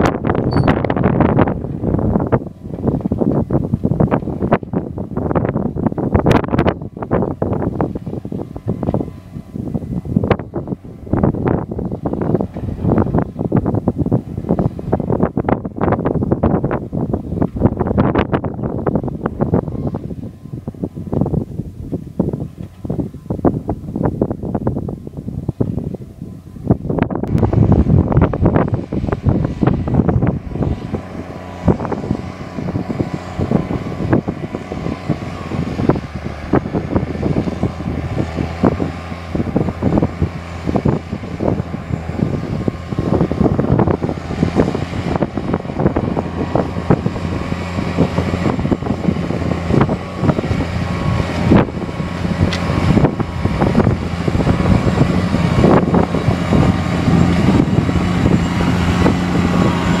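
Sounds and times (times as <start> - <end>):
tractor diesel engine under load: 0.0 - 60.0.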